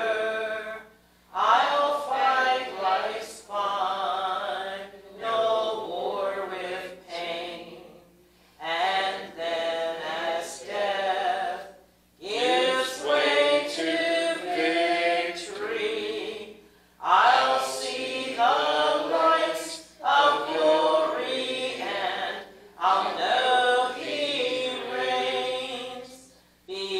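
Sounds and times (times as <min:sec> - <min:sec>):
unaccompanied hymn singing: 0:00.0 - 0:26.9.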